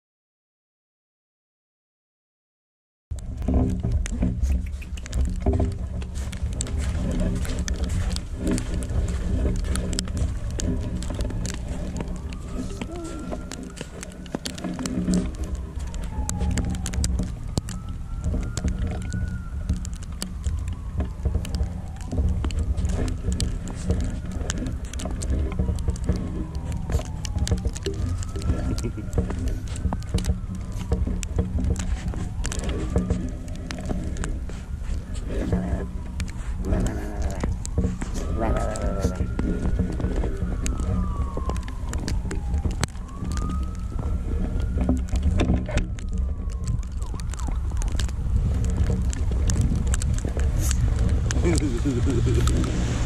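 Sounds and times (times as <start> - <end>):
sharp clicks and ticks: 3.1 - 53.0
wind on microphone: 3.1 - 53.0
faint siren wailing: 3.2 - 53.0.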